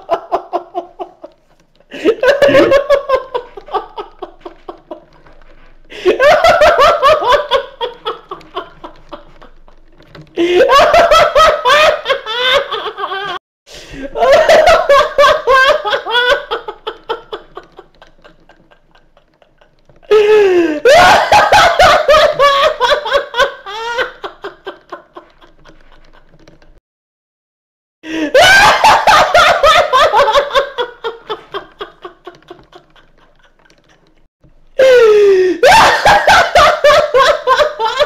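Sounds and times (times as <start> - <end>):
man laughing uncontrollably: 0.0 - 9.8, 10.4 - 13.4, 14.0 - 26.4, 28.1 - 34.1, 34.8 - 38.0.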